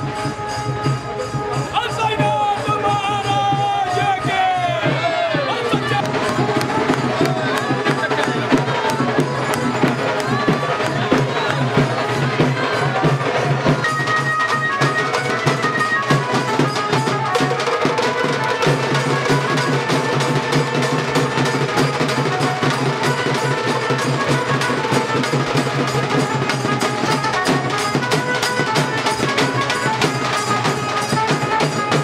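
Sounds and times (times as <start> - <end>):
fast dense percussion: 0.0 - 32.0.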